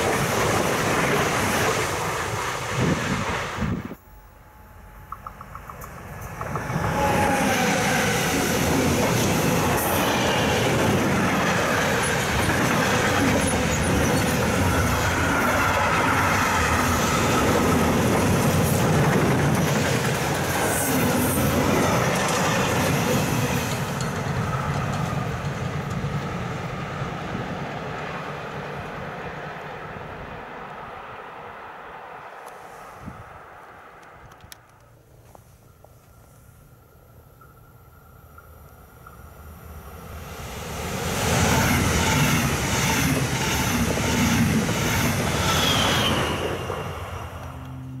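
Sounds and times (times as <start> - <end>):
freight train passing: 0.0 - 48.0.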